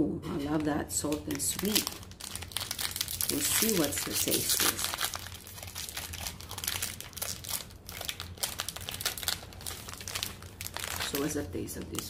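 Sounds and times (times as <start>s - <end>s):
plastic packet crinkling: 1.0s - 12.0s.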